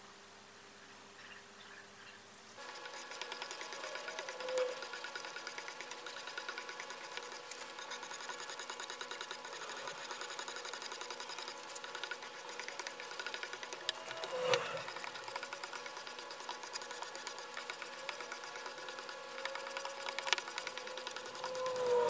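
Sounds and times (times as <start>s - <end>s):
small motor machine clattering: 2.6s - 22.0s.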